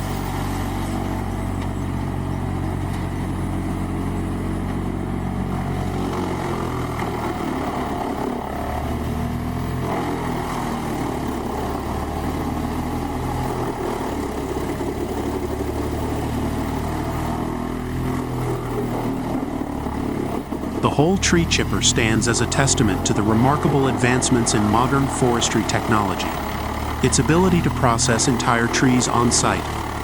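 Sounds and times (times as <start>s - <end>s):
tree chipper engine running: 0.0s - 30.0s.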